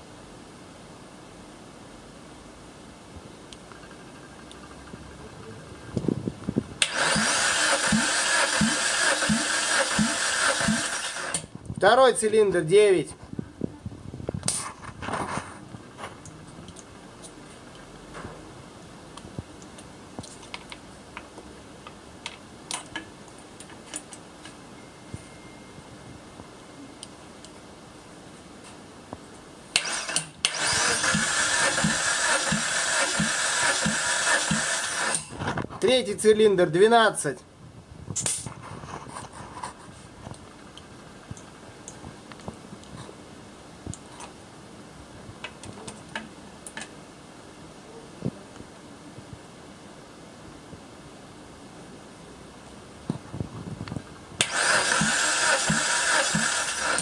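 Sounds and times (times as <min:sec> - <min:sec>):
low steady hiss: 0:00.0 - 0:57.0.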